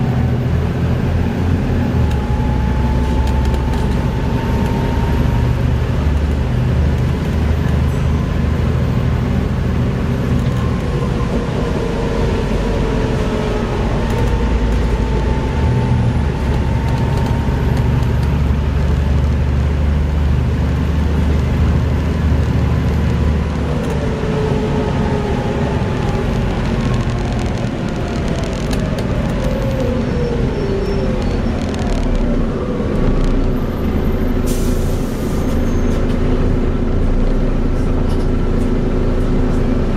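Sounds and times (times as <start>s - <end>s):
bus engine drone with whine: 0.0s - 39.9s.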